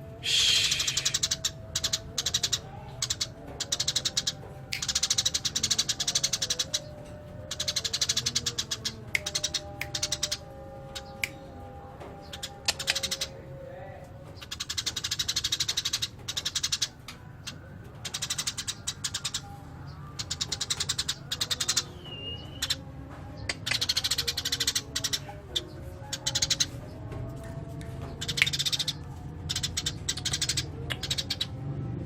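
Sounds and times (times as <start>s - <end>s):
sparrows chirping: 0.0s - 31.6s.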